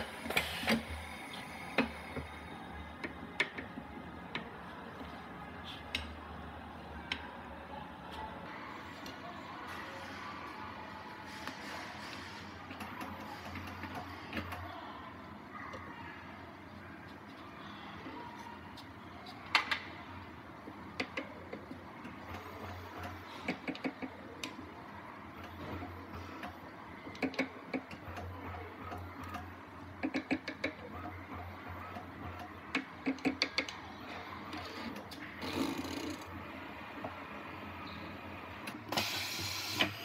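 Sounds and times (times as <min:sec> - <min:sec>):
low machine hum: 0:00.0 - 0:33.2.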